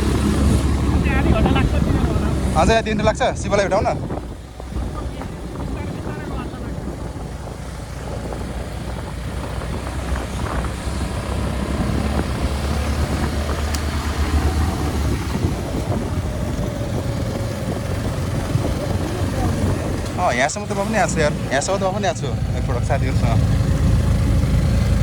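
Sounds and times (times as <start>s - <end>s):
wind noise on microphone: 0.0s - 22.1s
low engine rumble: 0.0s - 25.0s.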